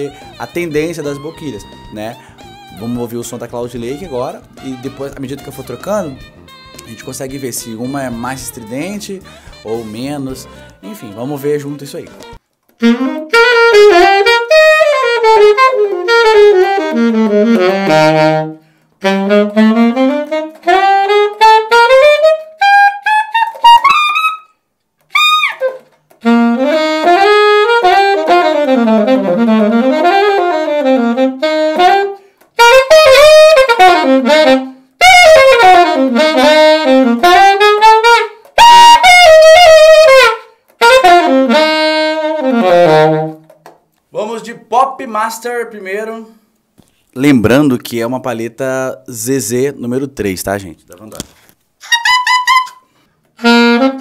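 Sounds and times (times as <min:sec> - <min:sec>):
solo alto saxophone melody: 0:00.0 - 0:43.6, 0:51.8 - 0:54.0.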